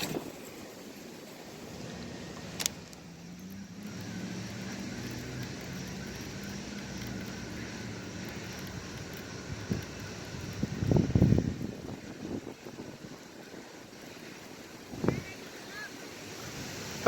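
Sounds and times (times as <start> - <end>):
steady engine drone: 0.0 - 17.0.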